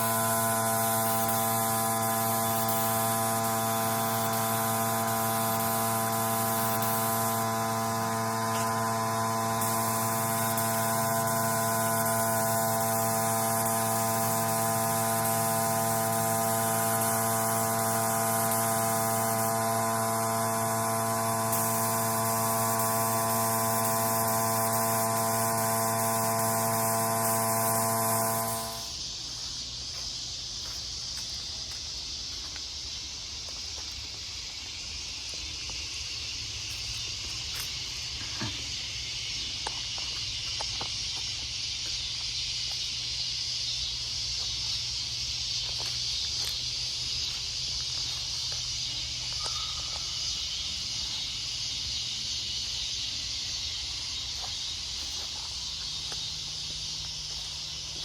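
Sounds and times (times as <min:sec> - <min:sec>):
machine hum with hiss: 0:00.0 - 0:58.0.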